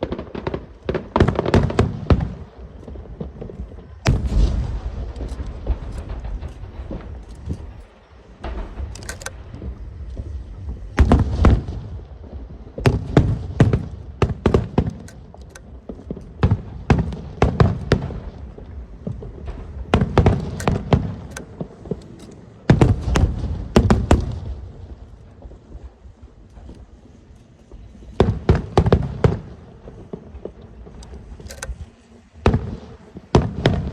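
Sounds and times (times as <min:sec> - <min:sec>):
fireworks bursting: 0:00.0 - 0:33.9.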